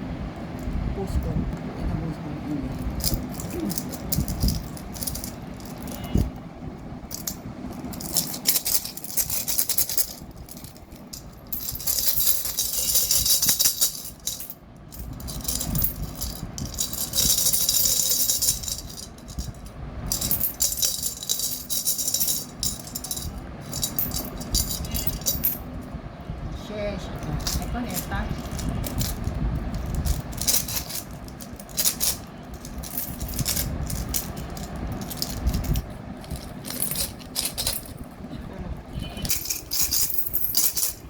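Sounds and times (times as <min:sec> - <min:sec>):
coins rattling in piggy banks: 0:02.6 - 0:06.4, 0:07.1 - 0:25.8, 0:27.2 - 0:38.2, 0:38.8 - 0:41.0.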